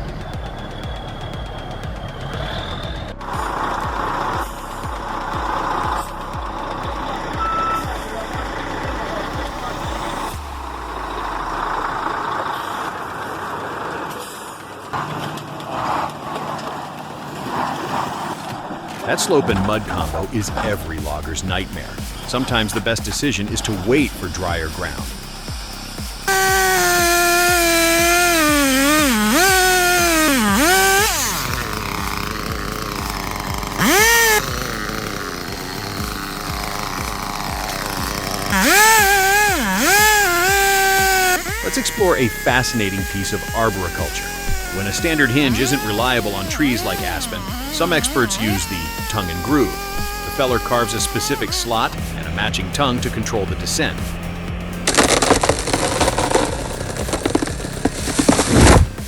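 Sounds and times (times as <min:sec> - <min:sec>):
chainsaw running: 0:00.0 - 0:59.0
low engine hum: 0:00.0 - 0:59.0
truck engine rushing hiss: 0:00.0 - 0:59.0.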